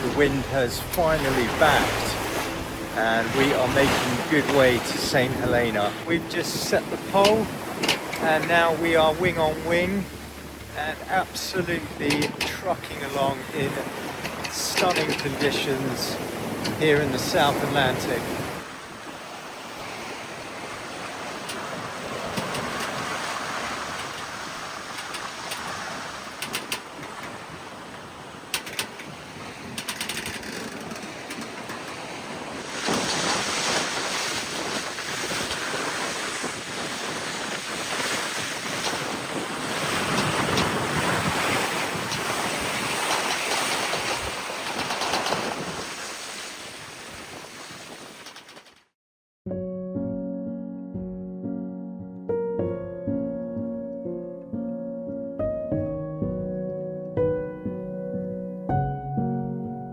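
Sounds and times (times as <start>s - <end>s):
wind gusting on microphone: 0.0s - 12.4s, 13.0s - 48.7s
water rushing along a hull: 0.0s - 48.7s.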